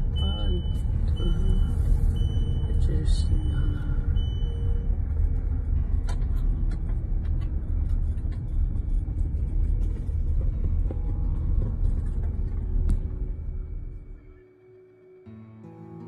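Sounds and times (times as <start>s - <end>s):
tyres rumbling on gravel road: 0.0s - 14.1s.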